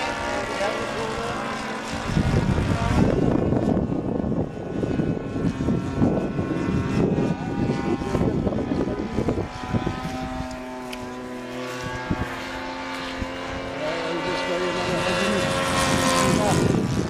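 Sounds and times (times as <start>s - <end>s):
model plane engine droning: 0.0s - 17.0s
wind buffeting microphone: 0.0s - 17.0s.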